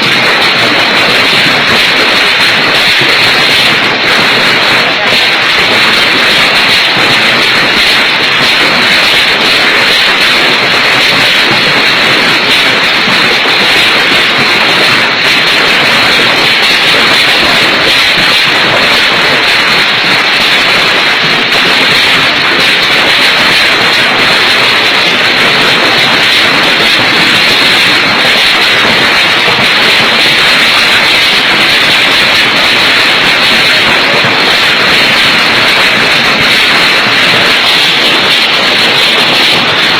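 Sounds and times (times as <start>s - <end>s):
hail and heavy rain falling: 0.0s - 39.9s.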